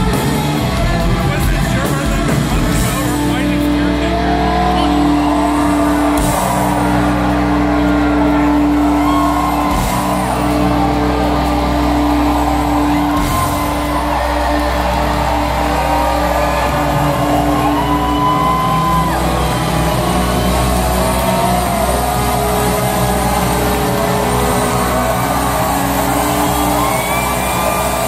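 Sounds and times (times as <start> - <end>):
live rock band playing: 0.0 - 28.0
audience whooping and shouting: 2.6 - 28.0.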